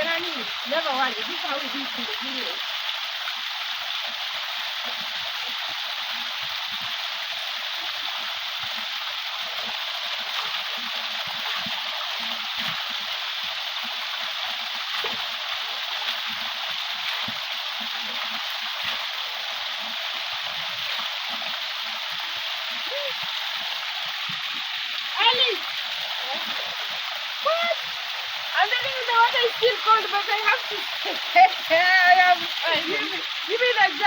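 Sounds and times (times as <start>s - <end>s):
fast-running river water: 0.0s - 34.0s.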